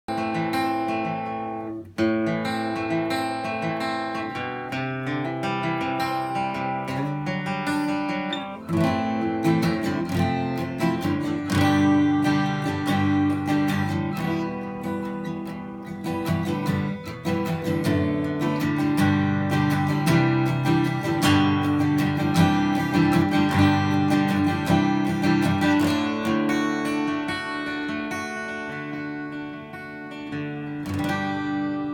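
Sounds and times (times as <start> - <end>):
acoustic guitar chords: 0.1 - 31.9.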